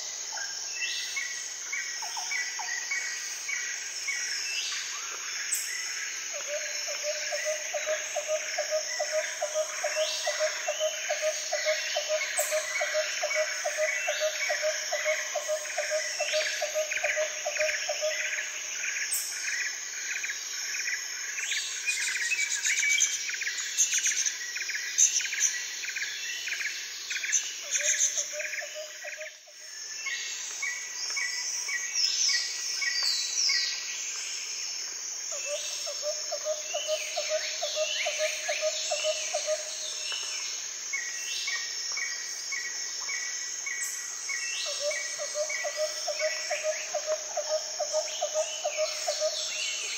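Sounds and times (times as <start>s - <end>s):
high insect drone: 0.0s - 49.9s.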